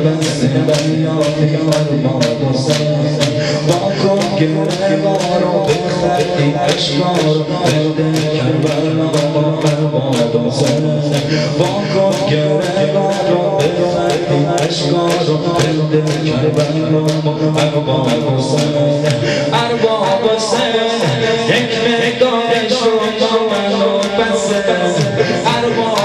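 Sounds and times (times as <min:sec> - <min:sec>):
chest beating slaps: 0:00.0 - 0:26.0
man chanting into microphone: 0:00.0 - 0:26.0.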